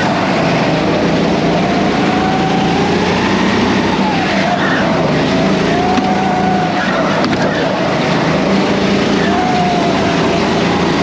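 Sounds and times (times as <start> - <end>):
go-kart motor revving: 0.0 - 11.0.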